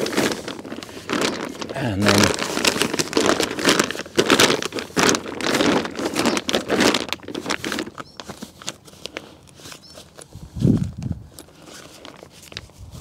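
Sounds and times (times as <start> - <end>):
fabric rustling and crinkling: 0.0 - 13.0.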